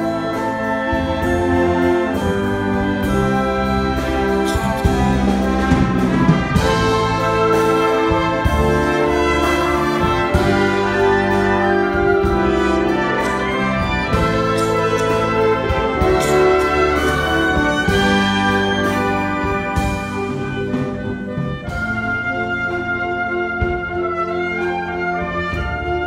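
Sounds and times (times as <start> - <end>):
brass chords: 0.0 - 26.0
percussion strikes: 0.9 - 22.1.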